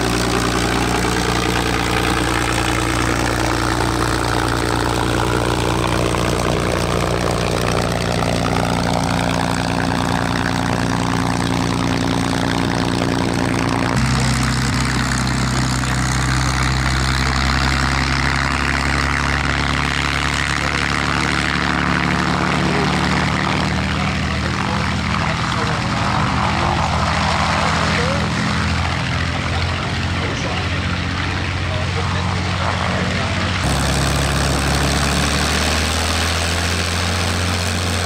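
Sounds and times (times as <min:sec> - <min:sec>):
aircraft engine running: 0:00.0 - 0:38.0
propeller drone: 0:00.0 - 0:38.0.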